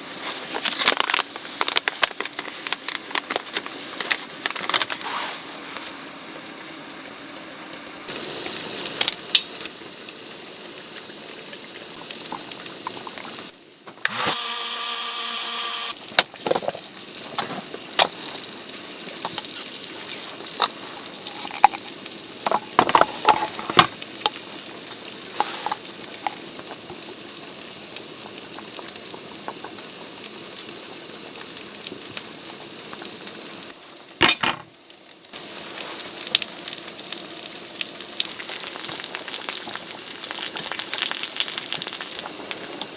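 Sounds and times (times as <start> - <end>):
food sizzling in a pan: 5.0 - 13.8, 14.7 - 42.9.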